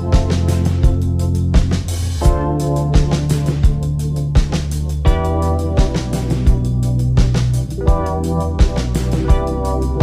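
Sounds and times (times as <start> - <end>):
heavy kick drum: 0.0 - 10.0
held chords: 0.0 - 10.0.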